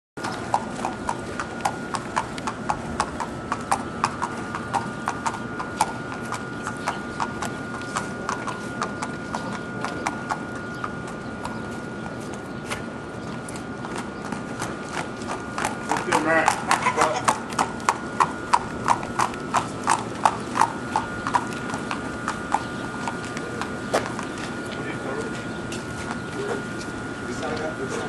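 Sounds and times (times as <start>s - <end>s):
horse hooves clip-clopping on pavement: 0.2s - 28.0s.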